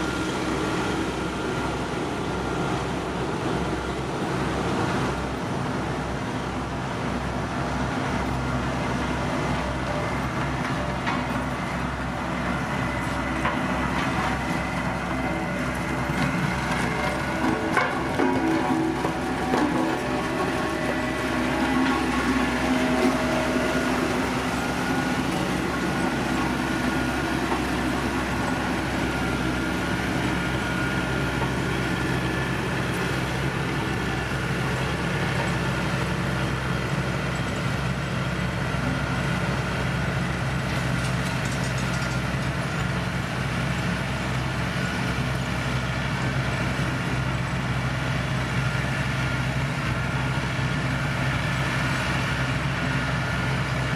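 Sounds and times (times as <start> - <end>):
heavy machinery diesel engine drone: 0.0 - 53.9.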